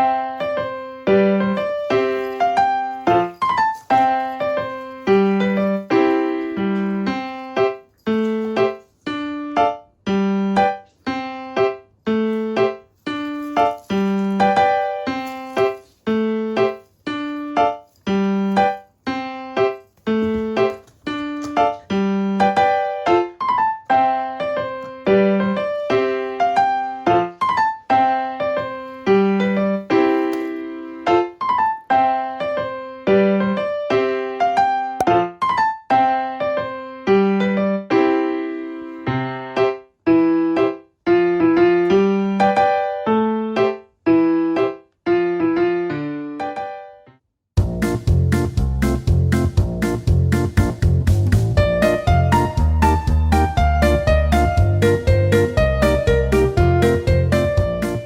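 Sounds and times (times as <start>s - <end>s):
gentle piano melody: 0.0s - 47.1s, 47.7s - 58.0s.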